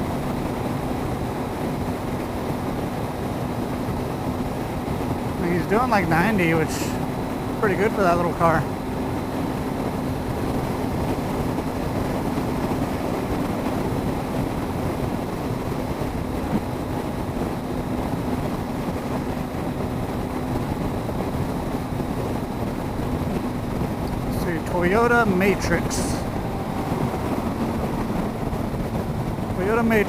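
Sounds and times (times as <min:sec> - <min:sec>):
motorcycle engine cruising: 0:00.0 - 0:30.0
wind rushing over microphone: 0:00.0 - 0:30.0.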